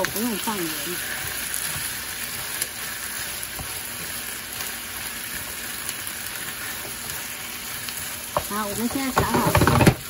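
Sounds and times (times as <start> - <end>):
food sizzling in frying pan: 0.0 - 10.0
wooden spatula scraping: 0.0 - 10.0.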